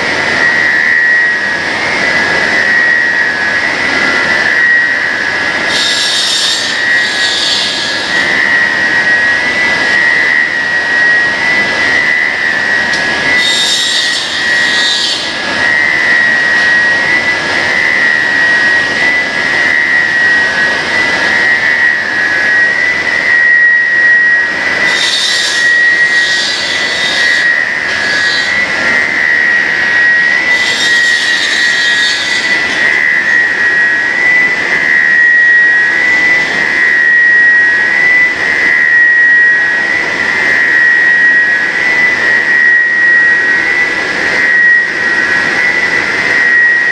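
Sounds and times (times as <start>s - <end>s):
cutting machine whine: 0.0s - 46.9s.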